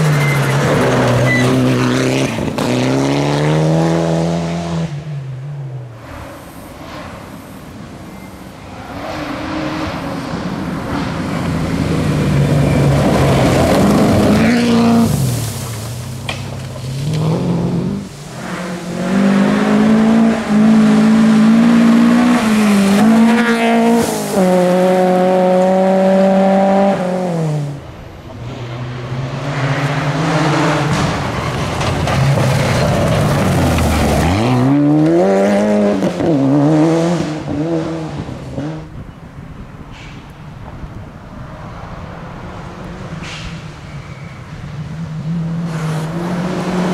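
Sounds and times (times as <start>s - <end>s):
rally car engine at full throttle: 0.0s - 39.2s, 41.6s - 46.9s.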